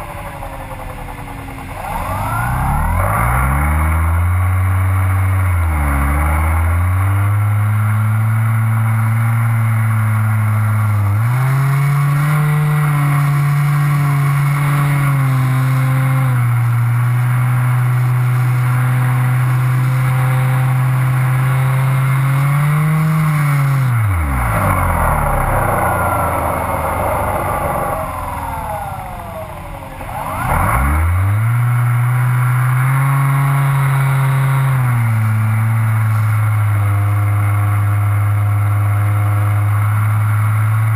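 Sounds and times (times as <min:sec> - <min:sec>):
model airplane motor droning: 0:00.0 - 0:40.9.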